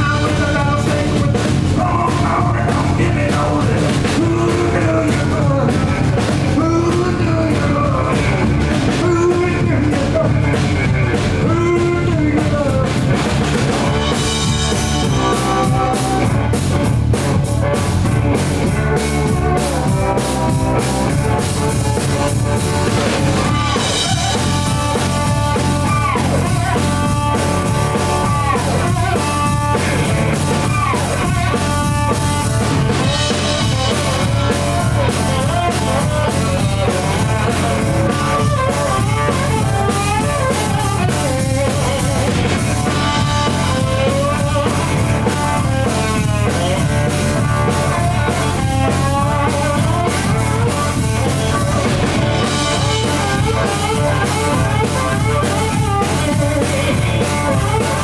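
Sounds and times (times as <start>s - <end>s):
bass guitar: 0.0s - 58.0s
drum kit: 0.0s - 58.0s
electric slide guitar: 0.0s - 58.0s.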